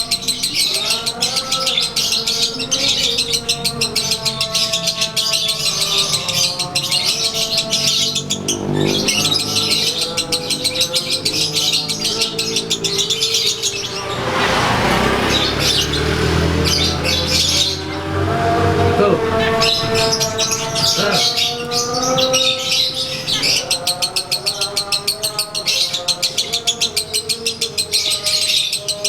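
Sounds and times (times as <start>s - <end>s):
lovebird high chattering chirps: 0.0s - 29.0s.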